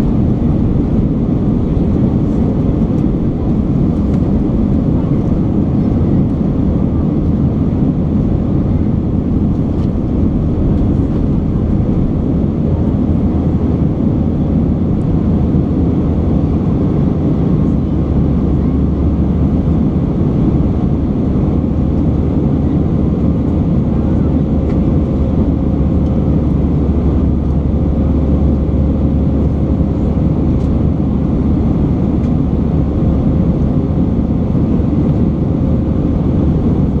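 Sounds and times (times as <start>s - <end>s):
jet engine cabin drone: 0.0s - 37.0s.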